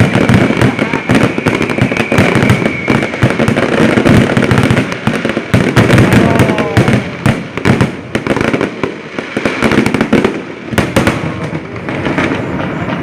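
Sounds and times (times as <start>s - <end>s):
fireworks bangs and pops: 0.0s - 13.0s
fireworks crackling: 0.0s - 13.0s.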